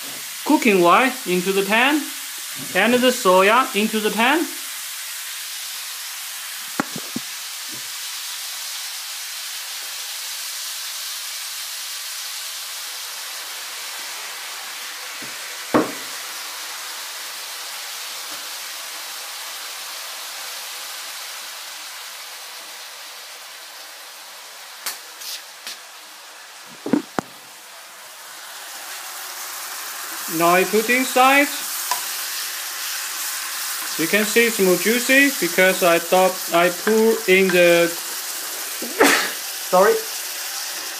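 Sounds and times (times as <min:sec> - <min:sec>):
meat sizzling in hot oil: 0:00.0 - 0:40.9.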